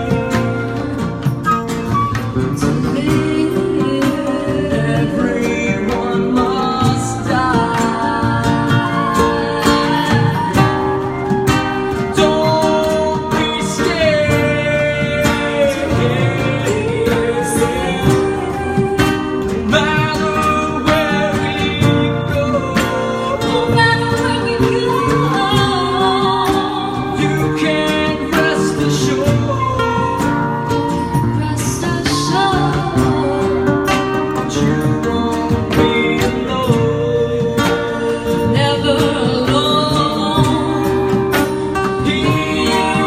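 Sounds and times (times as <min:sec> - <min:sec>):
strummed acoustic guitar: 0:00.0 - 0:43.0
man singing: 0:02.3 - 0:10.8, 0:12.1 - 0:43.0.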